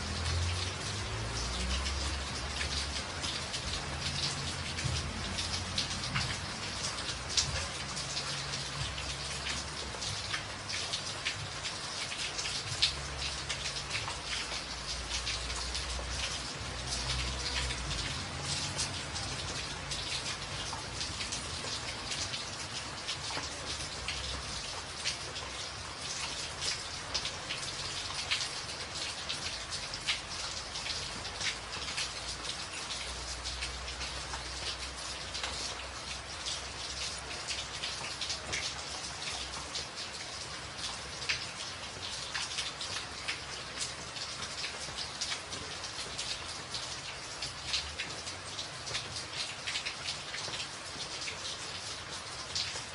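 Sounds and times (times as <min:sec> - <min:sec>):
heavy rain on a tin roof: 0:00.0 - 0:52.9.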